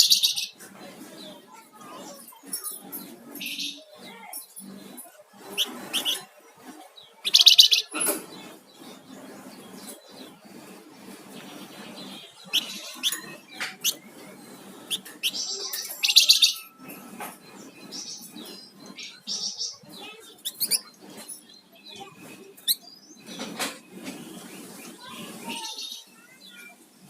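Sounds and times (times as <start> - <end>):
songbird chirping and trilling: 0.0 - 27.0.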